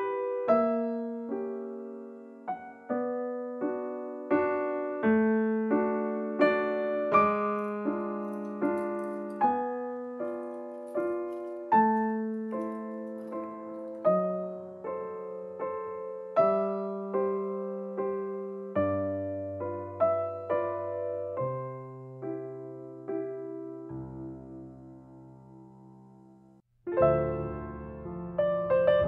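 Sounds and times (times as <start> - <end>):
slow gentle piano music: 0.0 - 29.0.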